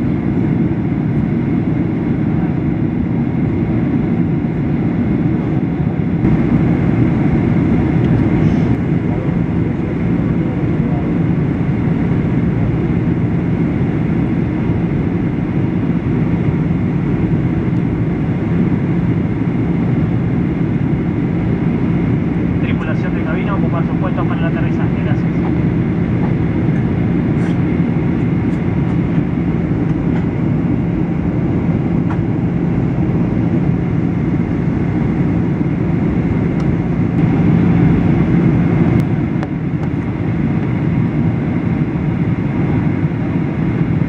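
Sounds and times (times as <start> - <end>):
airplane cabin engine rumble: 0.0 - 44.0.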